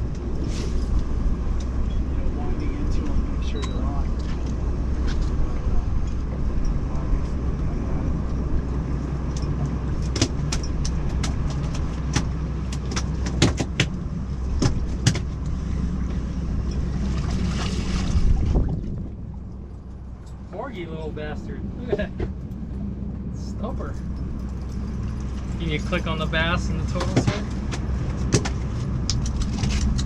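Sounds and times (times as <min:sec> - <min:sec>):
boat engine rumble: 0:00.0 - 0:30.0.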